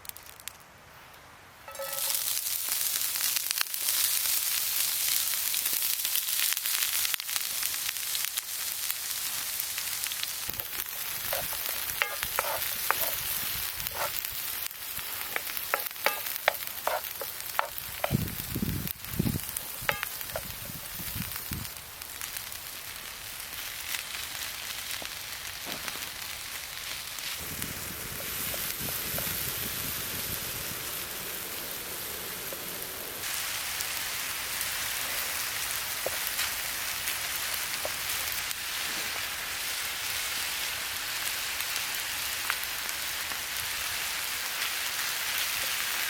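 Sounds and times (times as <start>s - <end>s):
food sizzling in frying pan: 1.7s - 46.0s.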